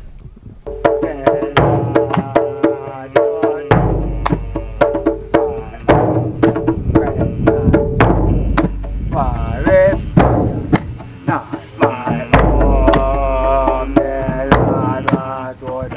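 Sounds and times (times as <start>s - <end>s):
deep bass drum booming: 0.7s - 15.9s
sharp hand drum strokes: 0.7s - 15.9s
person singing a chant: 0.8s - 15.9s.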